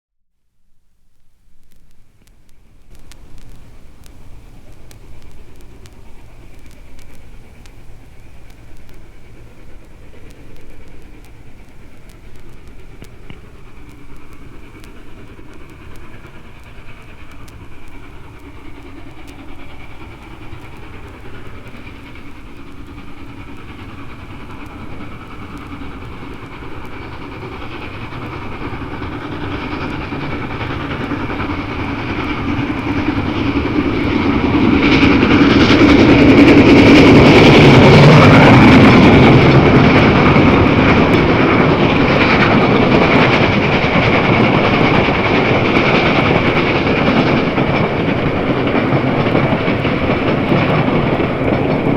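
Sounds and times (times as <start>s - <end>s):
steam locomotive exhaust beats: 0.3s - 51.9s
train wheels clattering over rails: 2.1s - 51.9s.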